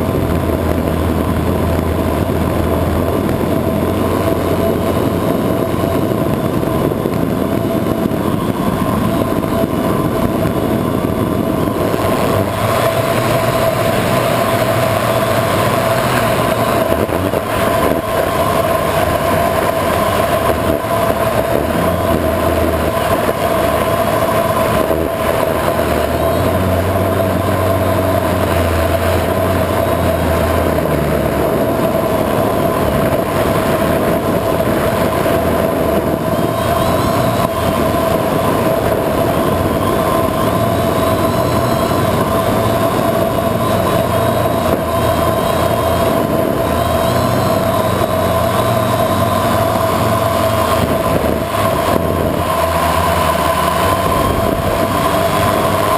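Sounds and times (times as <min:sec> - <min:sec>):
drone propellers humming: 0:00.0 - 0:55.9
wind noise on microphone: 0:00.0 - 0:55.9.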